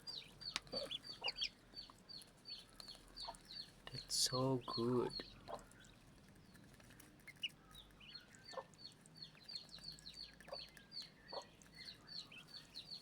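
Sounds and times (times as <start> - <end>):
ducklings peeping: 0.1 - 13.0.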